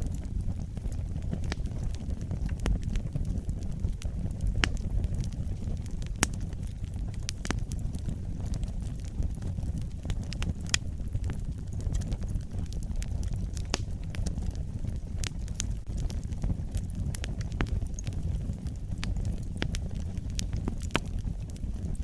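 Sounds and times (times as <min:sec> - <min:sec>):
fire burning: 0:00.0 - 0:22.0
fire crackling and popping: 0:00.0 - 0:22.0.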